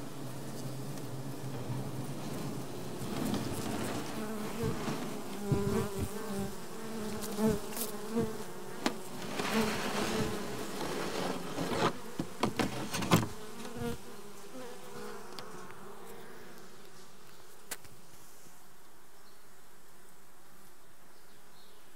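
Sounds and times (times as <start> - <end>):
honeybee colony buzzing: 0.0 - 19.0.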